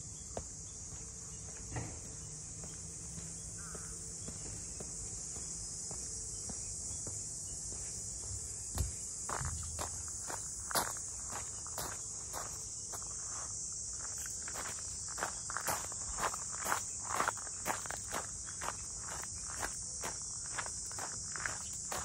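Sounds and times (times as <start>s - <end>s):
cicadas droning: 0.0s - 22.0s
footsteps: 4.2s - 22.0s.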